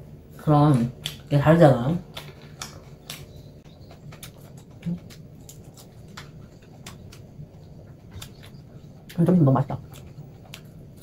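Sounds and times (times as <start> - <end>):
chewing leafy greens: 0.5 - 11.0.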